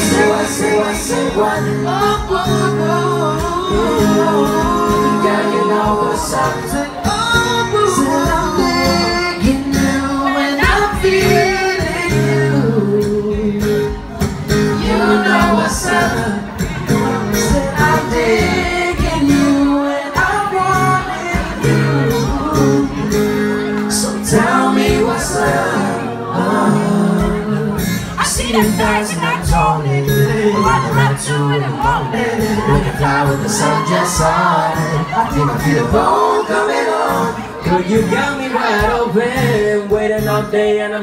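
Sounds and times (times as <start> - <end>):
acoustic guitar: 0.0 - 41.0
male vocal group singing: 0.0 - 41.0.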